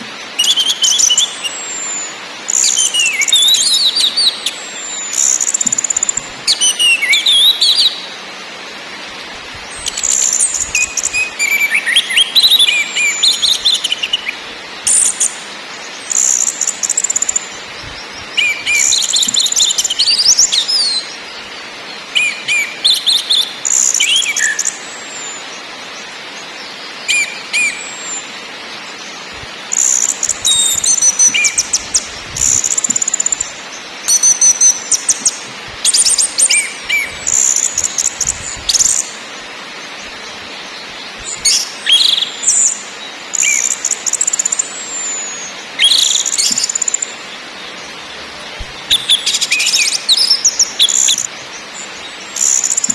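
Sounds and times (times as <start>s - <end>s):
steady hiss: 0.0s - 52.9s.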